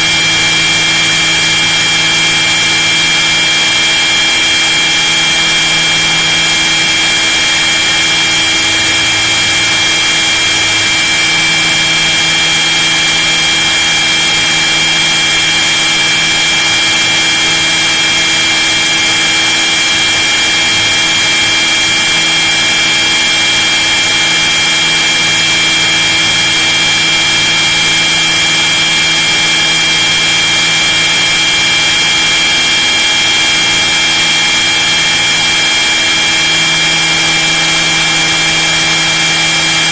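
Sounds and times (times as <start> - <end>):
model helicopter whine: 0.0 - 39.9.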